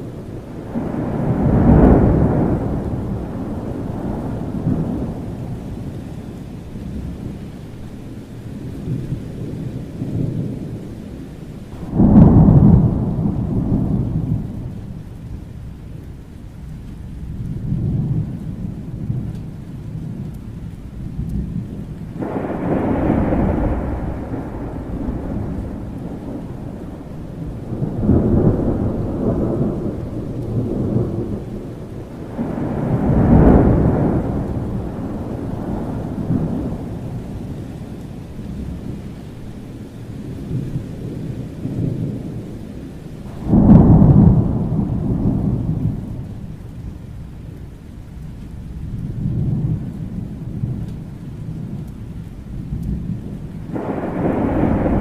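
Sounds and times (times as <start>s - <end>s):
rolling thunder: 0.0s - 55.0s
steady rain: 0.0s - 55.0s.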